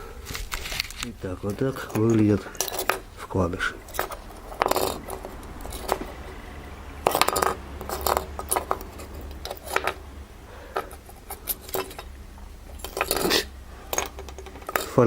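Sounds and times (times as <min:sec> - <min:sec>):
low steady hum: 0:00.0 - 0:15.0
metal bearing shells clinking: 0:00.4 - 0:10.1, 0:10.7 - 0:15.0.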